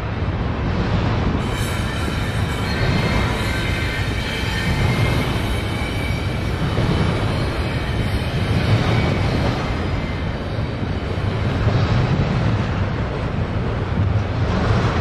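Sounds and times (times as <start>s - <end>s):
train wheels rumbling on bridge: 0.0s - 15.0s.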